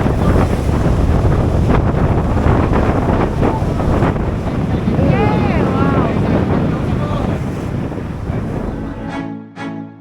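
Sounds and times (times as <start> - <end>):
steady low rumble: 0.0 - 9.2
rushing water: 0.0 - 9.3
wind buffeting microphone: 0.0 - 9.3.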